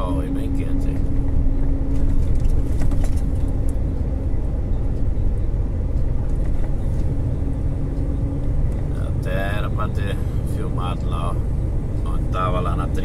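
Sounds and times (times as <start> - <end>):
faint steady hum: 0.0 - 13.0
truck engine and road rumble: 0.0 - 13.0.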